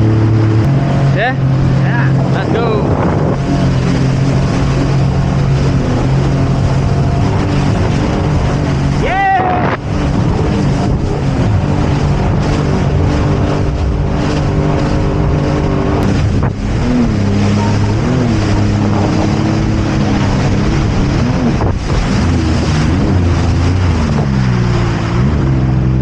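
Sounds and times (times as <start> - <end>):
jet ski engine running: 0.0 - 26.0
wind on microphone: 0.0 - 26.0.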